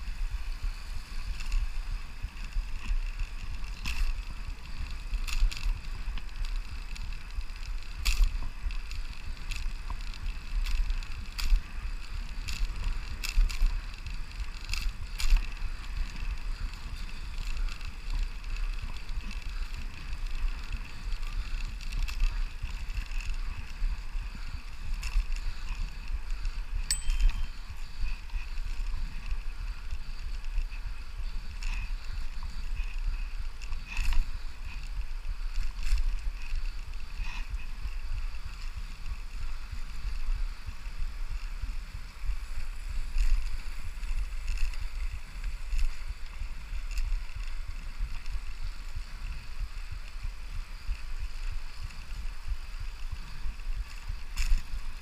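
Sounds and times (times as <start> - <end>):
bicycle clicks and rattles: 0.0 - 55.0
tyre and wind rumble: 0.0 - 55.0.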